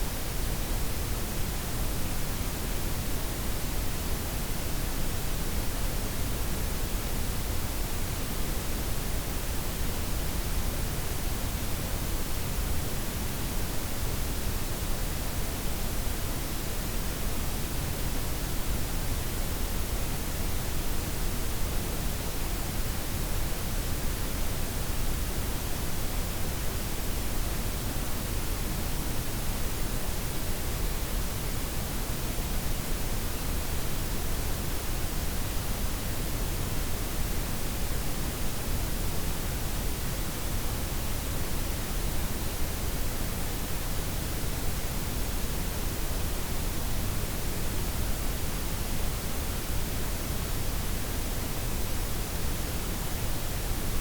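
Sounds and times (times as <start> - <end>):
noise blend hiss: 0.0 - 54.0.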